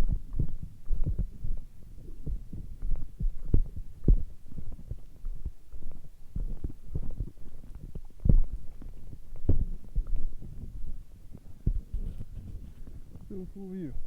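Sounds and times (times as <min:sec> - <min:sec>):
low thumps on microphone: 0:00.0 - 0:14.0.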